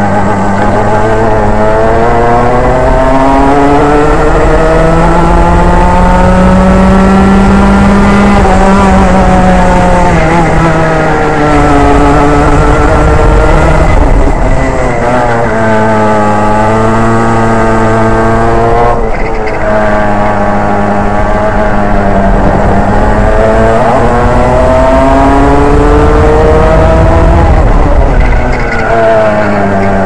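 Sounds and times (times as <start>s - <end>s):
racing kart engine: 0.0s - 30.0s.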